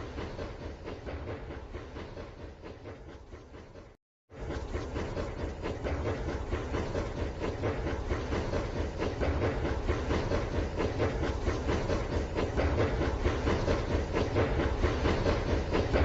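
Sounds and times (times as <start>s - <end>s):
rapid clicking of toy train: 0.0s - 16.0s.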